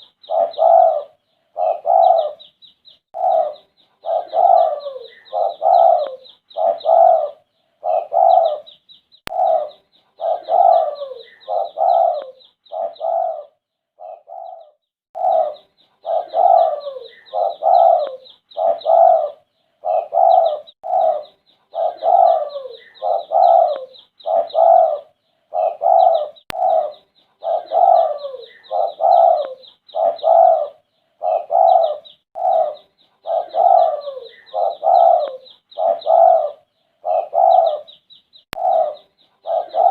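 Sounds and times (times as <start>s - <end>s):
dove cooing: 0.0s - 2.5s, 3.1s - 38.0s, 38.6s - 39.9s.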